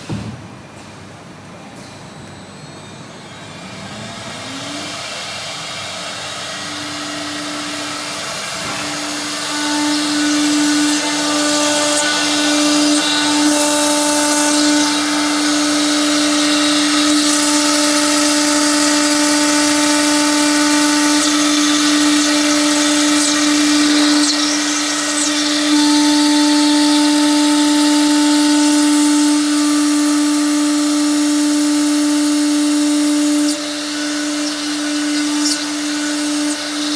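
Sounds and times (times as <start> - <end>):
stone saw motor whine: 2.3 - 36.9
saw blade cutting stone: 3.6 - 36.9.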